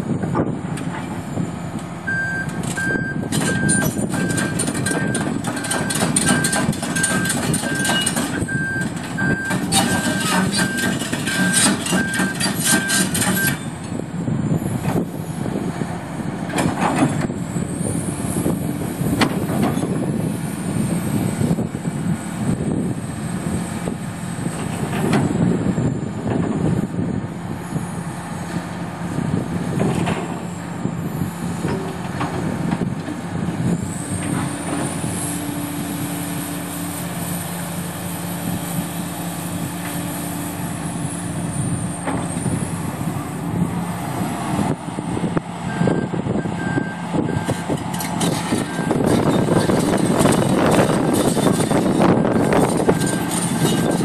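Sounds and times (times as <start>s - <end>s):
diesel excavator engine running: 0.0s - 54.0s.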